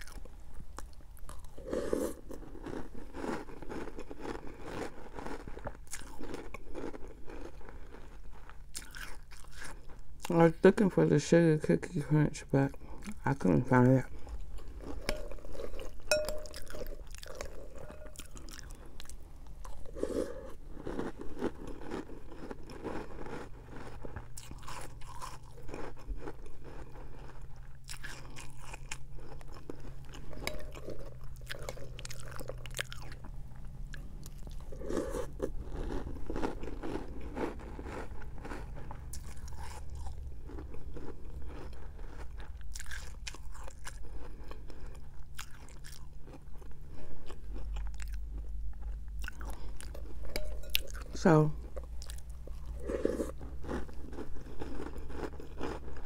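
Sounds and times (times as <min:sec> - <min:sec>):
chewing and crunching cereal: 0:00.0 - 0:56.0.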